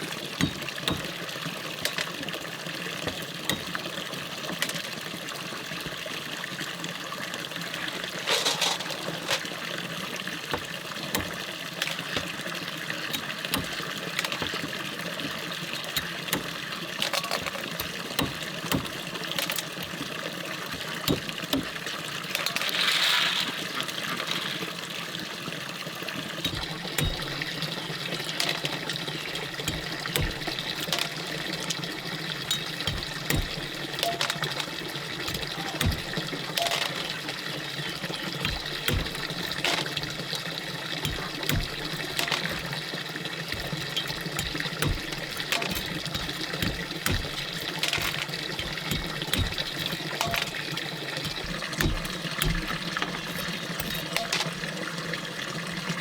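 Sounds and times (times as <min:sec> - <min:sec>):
small knocks and splashes: 0:00.0 - 0:55.8
stream water running: 0:00.0 - 0:56.0.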